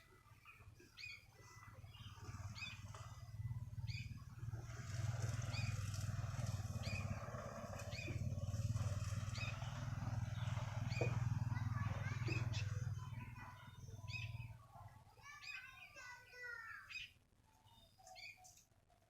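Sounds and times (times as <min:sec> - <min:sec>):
bird chirping: 0:00.1 - 0:16.1, 0:16.8 - 0:18.7.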